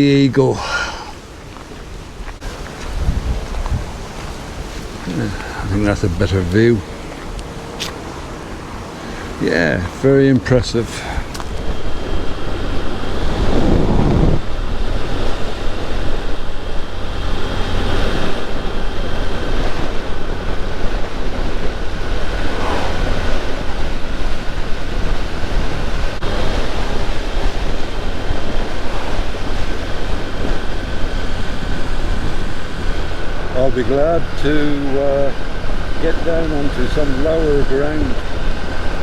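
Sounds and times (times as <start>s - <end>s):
wind buffeting microphone: 0.0s - 39.0s
faint motorcycle engine: 2.1s - 39.0s.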